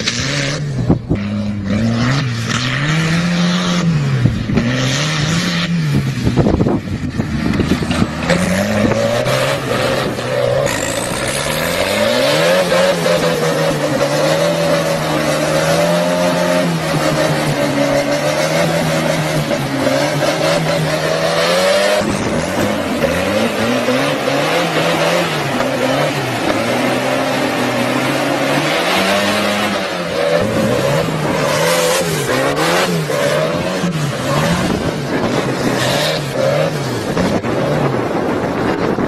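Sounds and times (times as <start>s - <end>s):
tractor engine revving: 0.0s - 39.0s
tyres spinning on asphalt: 0.0s - 39.0s.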